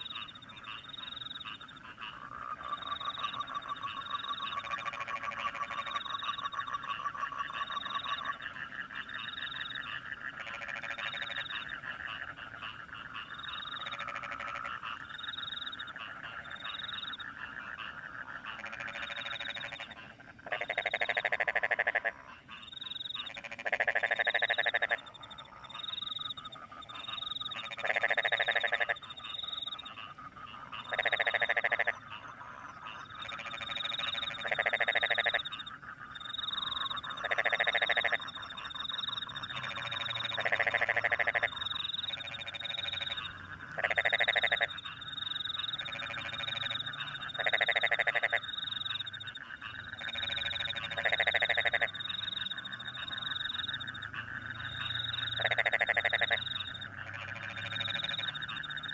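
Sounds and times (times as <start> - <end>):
crickets chirping: 0.0 - 17.5, 18.6 - 58.9
frog chorus: 0.0 - 58.9
loud pulsed frog call: 0.0 - 58.9.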